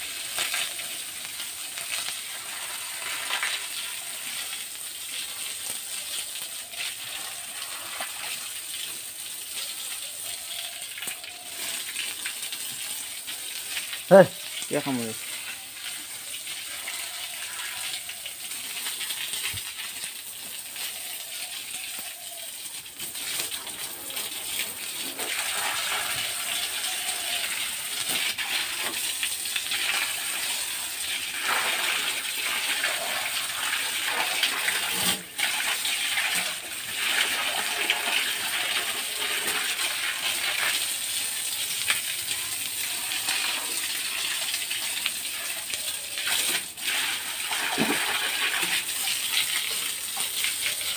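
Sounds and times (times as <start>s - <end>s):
water gushing and splashing: 0.0s - 50.9s.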